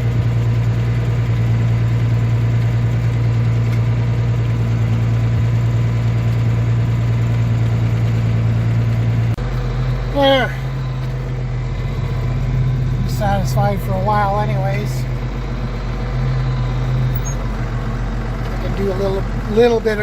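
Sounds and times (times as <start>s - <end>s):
tractor feed mixer humming: 0.0s - 20.0s.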